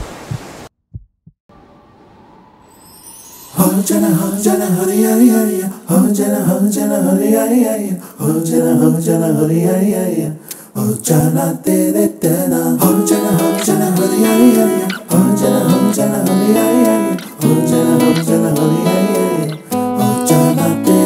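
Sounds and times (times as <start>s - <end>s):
person singing a song: 3.4s - 21.0s.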